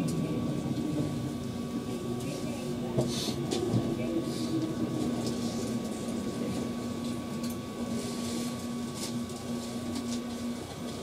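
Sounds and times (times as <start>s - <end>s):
train car hum: 0.0s - 11.0s.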